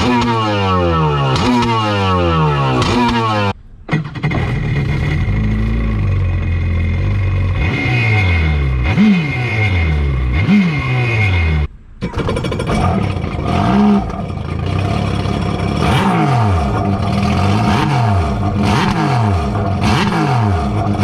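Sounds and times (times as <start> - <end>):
jet ski engine revving: 0.0 - 21.0.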